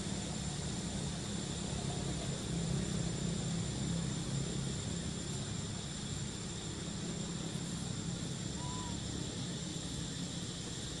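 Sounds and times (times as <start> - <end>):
hiss: 0.0 - 11.0.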